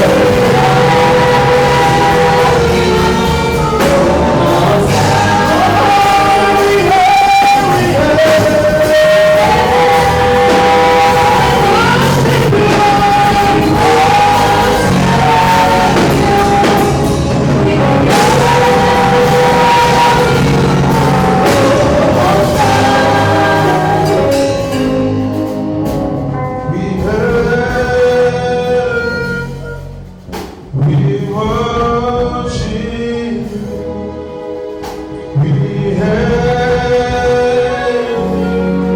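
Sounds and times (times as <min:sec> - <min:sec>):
full band accompaniment: 0:00.0 - 0:38.9
voices singing gospel: 0:00.0 - 0:38.9.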